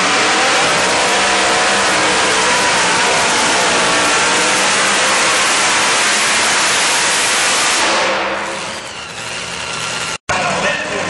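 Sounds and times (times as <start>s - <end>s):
truck engine at full throttle: 0.0s - 11.0s.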